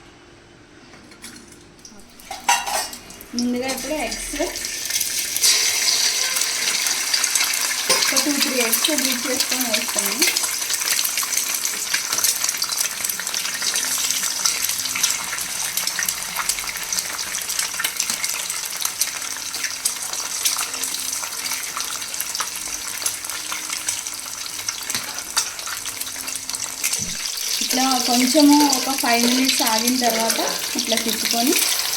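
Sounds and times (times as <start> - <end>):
eggs sizzling in hot oil: 1.8 - 31.9.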